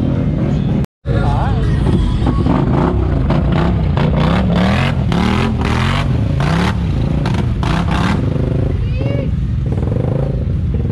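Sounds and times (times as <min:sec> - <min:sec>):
atv engine revving: 0:00.0 - 0:10.9.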